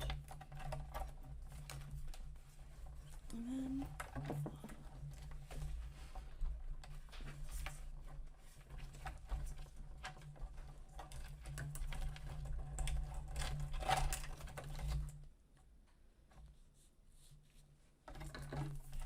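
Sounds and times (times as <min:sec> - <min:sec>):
plastic parts clicking and rattling: 0:00.0 - 0:16.4, 0:18.0 - 0:19.0.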